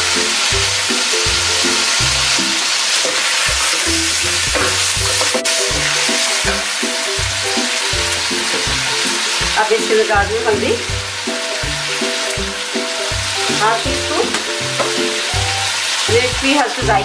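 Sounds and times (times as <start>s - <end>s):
background music: 0.0s - 17.0s
food sizzling in hot oil: 0.0s - 17.0s.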